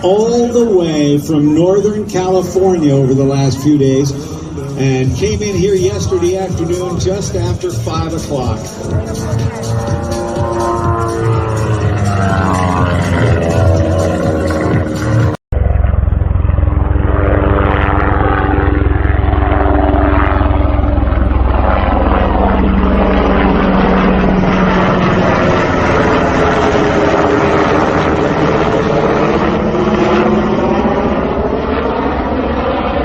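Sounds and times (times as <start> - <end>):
light airplane engine droning: 0.0 - 33.0.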